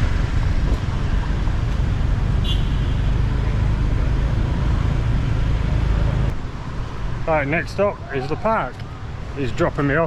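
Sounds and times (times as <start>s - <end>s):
motorbike and traffic rumble: 0.0s - 10.0s.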